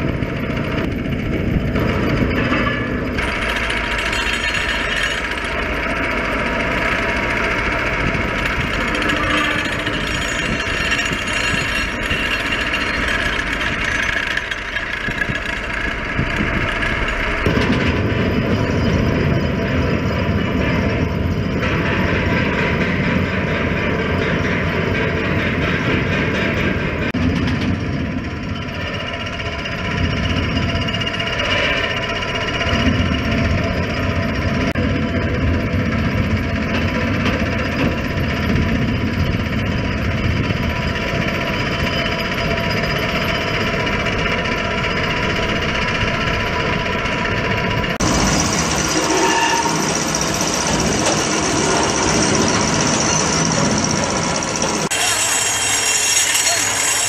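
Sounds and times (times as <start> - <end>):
vibratory pile hammer buzzing: 0.0 - 23.8, 28.4 - 57.0.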